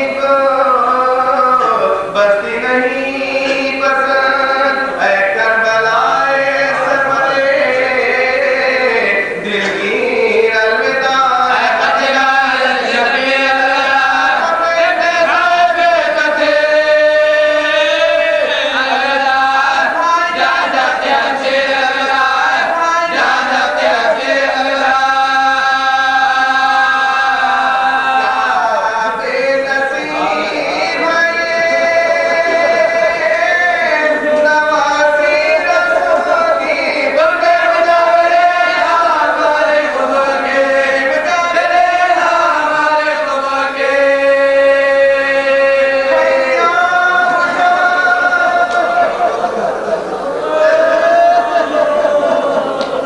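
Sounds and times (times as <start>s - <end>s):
men chanting together: 0.0s - 53.0s.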